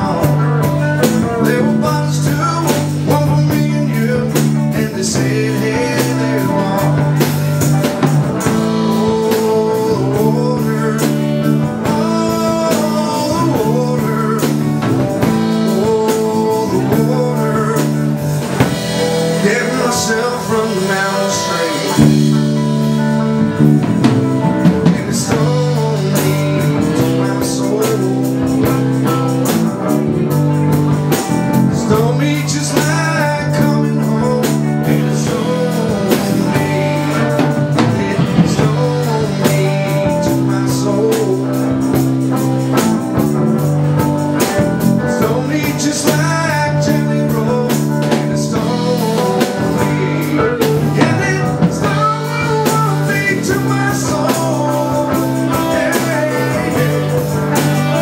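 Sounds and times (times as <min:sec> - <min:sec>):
live blues-rock band playing: 0:00.0 - 0:58.0
person singing: 0:00.0 - 0:58.0.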